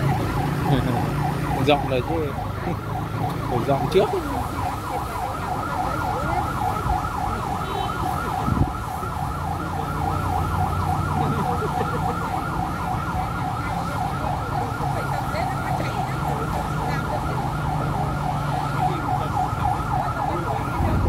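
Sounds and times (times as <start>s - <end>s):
fire truck siren yelping: 0.0s - 21.0s.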